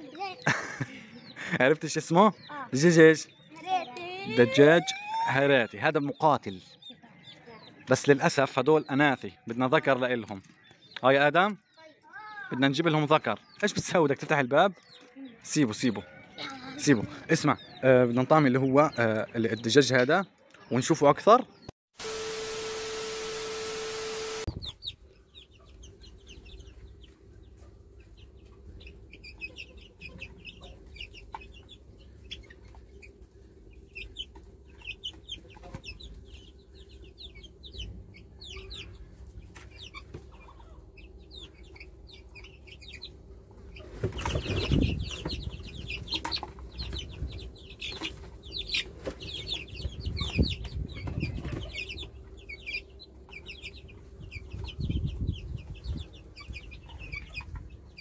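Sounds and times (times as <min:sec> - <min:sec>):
chicks cheeping and clucking: 0:00.0 - 0:21.7, 0:22.8 - 0:58.0.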